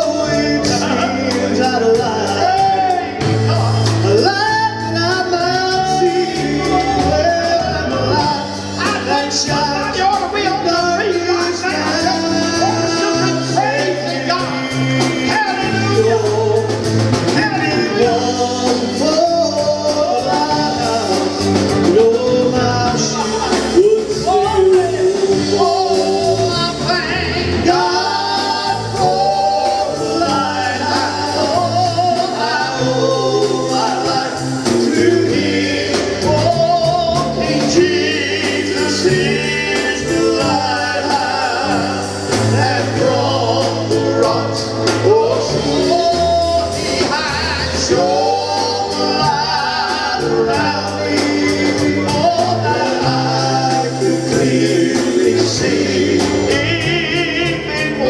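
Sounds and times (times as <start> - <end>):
drum kit cymbal beat: 0.0 - 58.0
low bass notes: 0.0 - 58.0
man singing: 0.0 - 58.0.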